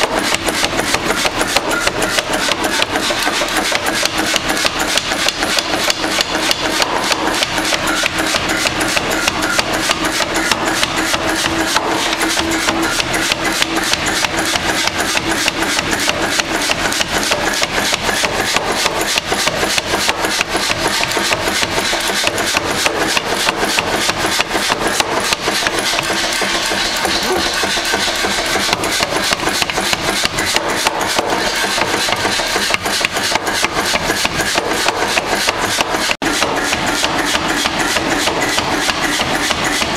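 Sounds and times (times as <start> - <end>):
power hammer striking metal: 0.0 - 39.9.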